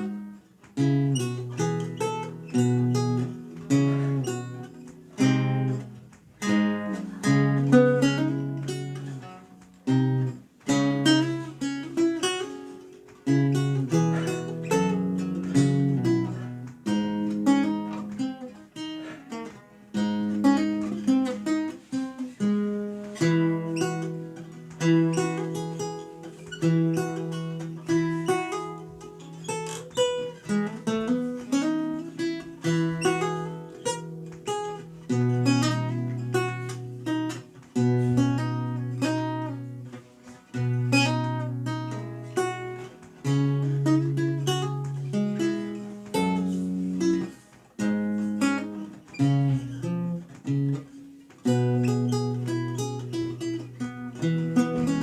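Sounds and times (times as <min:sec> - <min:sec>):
solo lute playing: 0:00.0 - 0:55.0.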